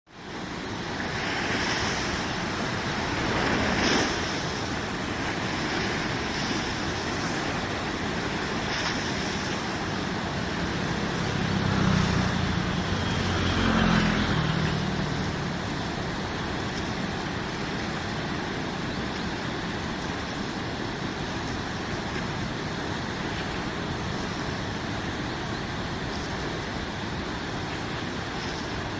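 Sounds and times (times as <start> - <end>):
water rushing in canal: 0.1 - 28.9.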